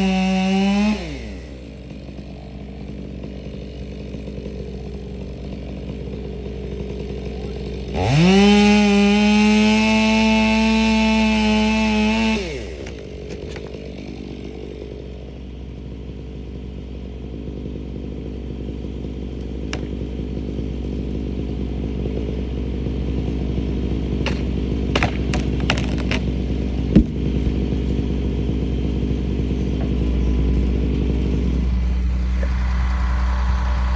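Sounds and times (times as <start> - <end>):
chainsaw engine idling: 0.0 - 33.9.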